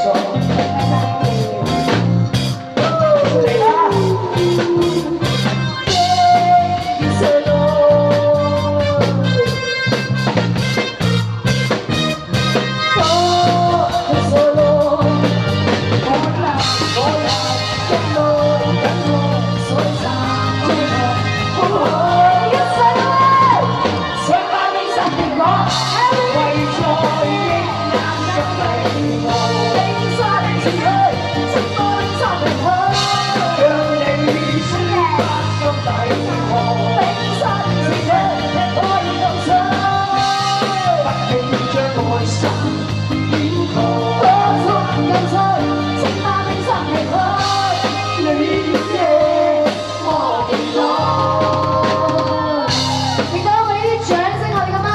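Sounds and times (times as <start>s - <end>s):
person singing into a microphone: 0.0s - 11.0s, 12.2s - 54.9s
guitar: 0.0s - 54.9s
rock drums: 0.0s - 54.9s.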